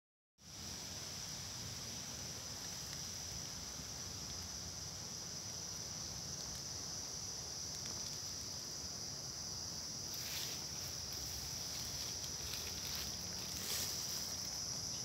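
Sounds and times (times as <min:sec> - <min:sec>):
high-pitched insect chorus: 0:00.4 - 0:15.0.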